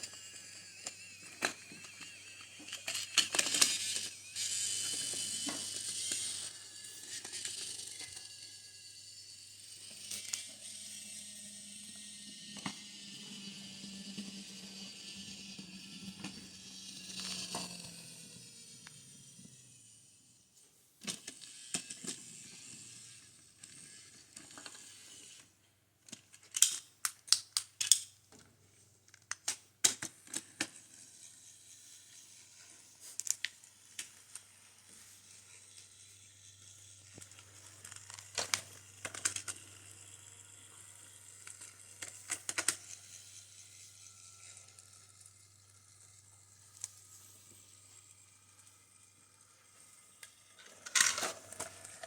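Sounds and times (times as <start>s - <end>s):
wooden toy track pieces clicking: 0.0s - 19.9s, 21.0s - 25.4s, 26.0s - 28.4s, 29.1s - 34.6s, 35.3s - 52.0s.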